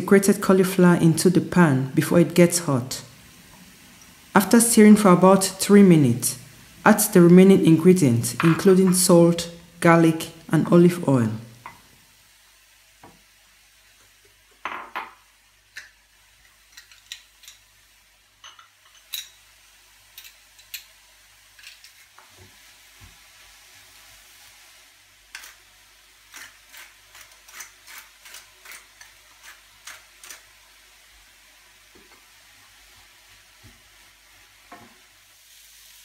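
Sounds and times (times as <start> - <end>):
faint sizzle from pan: 0.0 - 36.0.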